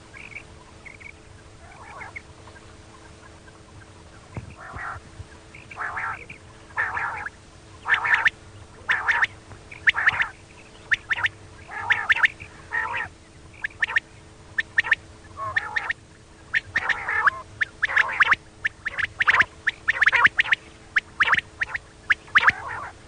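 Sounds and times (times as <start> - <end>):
quail calling: 0.0 - 23.0.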